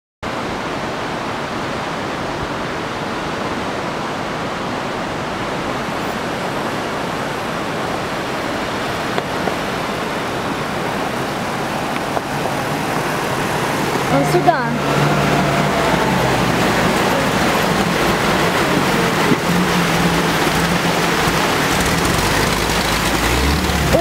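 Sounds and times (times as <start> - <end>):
rushing water: 0.2 - 24.0.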